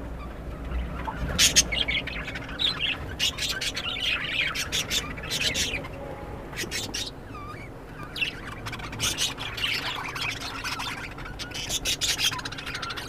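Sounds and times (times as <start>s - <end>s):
budgerigars chattering: 0.7s - 6.0s, 6.6s - 13.0s.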